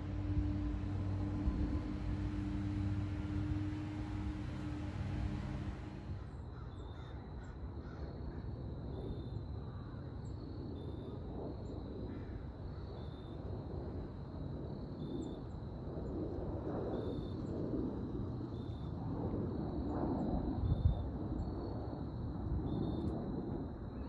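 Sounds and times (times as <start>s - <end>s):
jet airliner rumble overhead: 0.0s - 6.9s, 8.4s - 24.0s.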